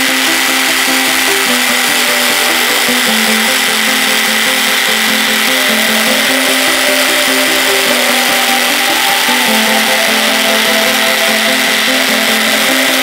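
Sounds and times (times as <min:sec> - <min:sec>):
background music: 0:00.0 - 0:13.0
power scraper scraping metal: 0:00.0 - 0:13.0.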